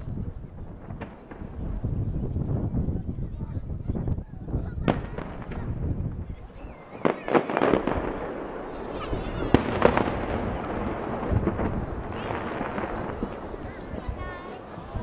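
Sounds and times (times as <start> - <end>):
firework shells bursting: 0.3 - 2.5, 4.8 - 15.0.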